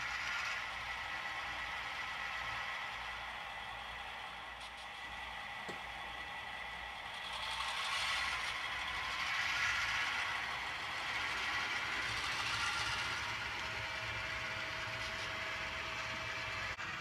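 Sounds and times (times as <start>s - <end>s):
model locomotive diesel engine sound: 0.0s - 17.0s
model train running noise: 0.0s - 17.0s.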